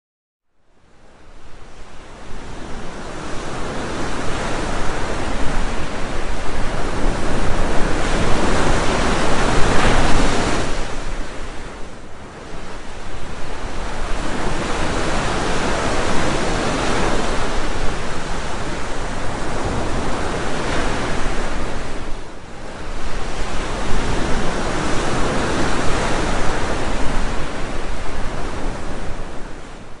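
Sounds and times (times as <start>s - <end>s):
waves breaking: 1.8s - 30.0s.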